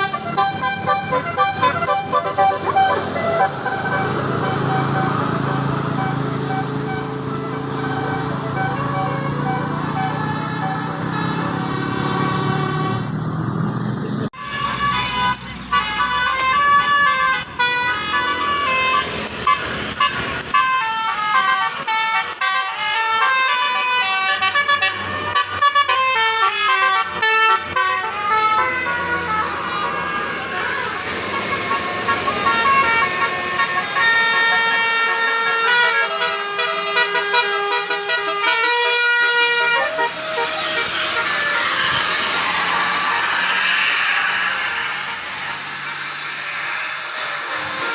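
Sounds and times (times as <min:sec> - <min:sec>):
multi-tone musical bus horn: 0:00.0 - 0:47.9.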